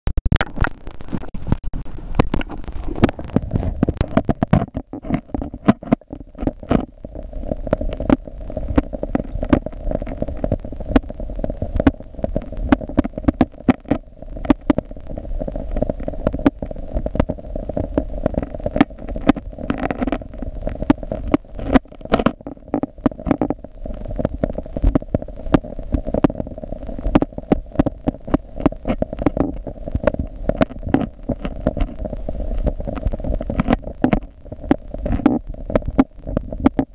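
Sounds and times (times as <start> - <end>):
rain drops hitting water underwater: 0.1 - 36.9.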